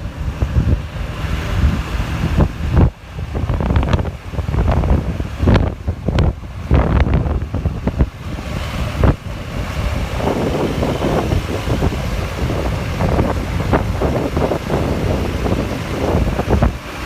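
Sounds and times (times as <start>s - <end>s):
road traffic rumbling: 0.0s - 17.0s
wind buffeting microphone: 0.0s - 17.0s.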